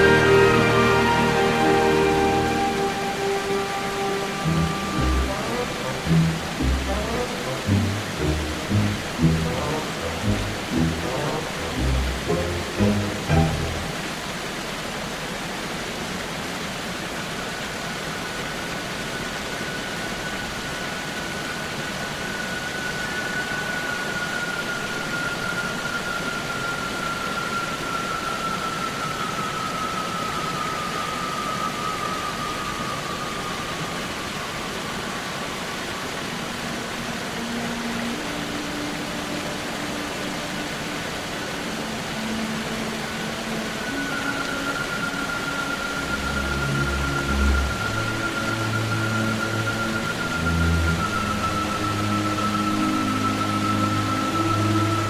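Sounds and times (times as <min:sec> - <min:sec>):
soft held orchestral notes: 0:00.0 - 0:14.7, 0:19.5 - 0:55.0
waterfall rushing: 0:00.0 - 0:55.0.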